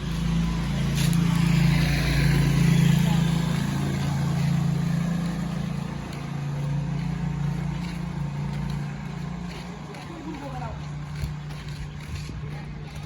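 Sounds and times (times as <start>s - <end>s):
tyre and road noise: 0.0s - 13.0s
vehicle engine humming: 0.0s - 13.0s.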